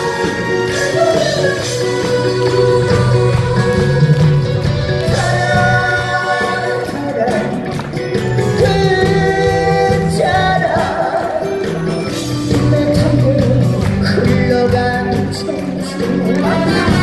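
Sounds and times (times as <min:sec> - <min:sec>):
man singing into microphone: 0:00.0 - 0:04.2, 0:05.0 - 0:17.0
band with steady beat: 0:00.0 - 0:17.0.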